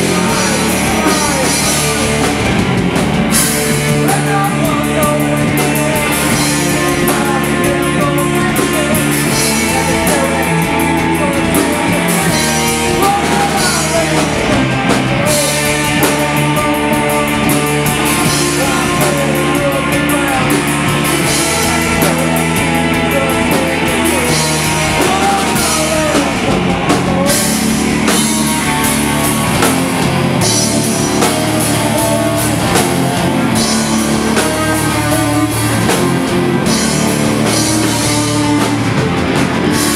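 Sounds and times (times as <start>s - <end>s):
drum kit: 0.0s - 39.9s
electric guitars: 0.0s - 39.9s
man singing: 0.0s - 39.9s.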